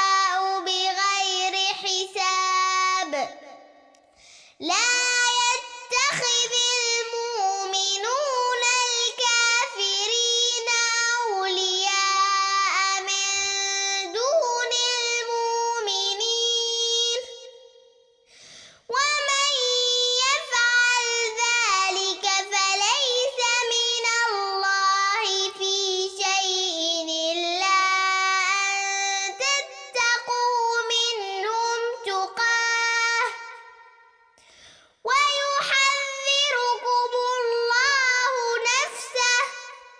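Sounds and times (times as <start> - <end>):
girl chanting melodically: 0.0 - 17.7, 18.4 - 39.9.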